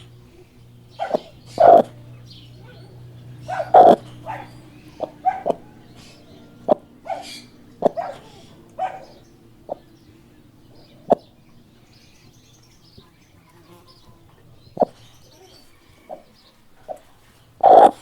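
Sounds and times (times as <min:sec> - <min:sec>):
faint high chirping: 0:00.0 - 0:18.0
hens clucking: 0:00.0 - 0:18.0.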